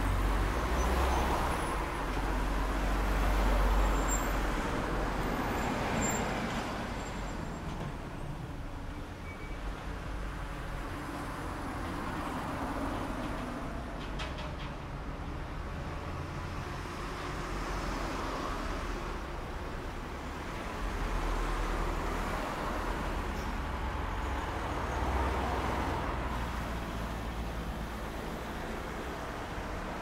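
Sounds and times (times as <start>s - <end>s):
car engines: 0.0s - 30.0s.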